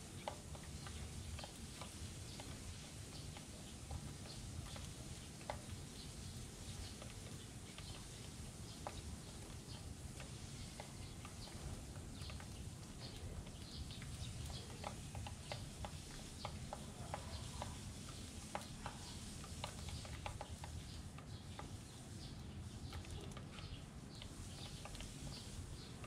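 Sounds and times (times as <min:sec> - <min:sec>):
birds pecking on plastic tray: 0:00.0 - 0:26.0.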